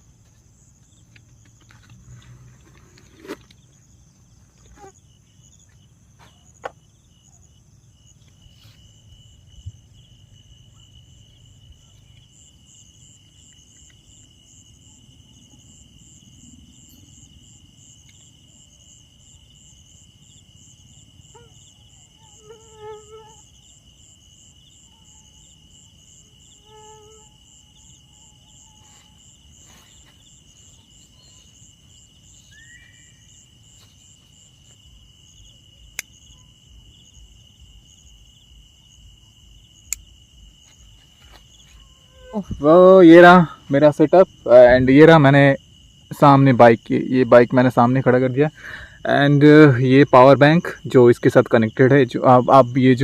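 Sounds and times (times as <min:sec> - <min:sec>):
rapidly pulsing insect trill: 0:00.0 - 0:53.0
steady high insect trill: 0:00.0 - 0:53.0.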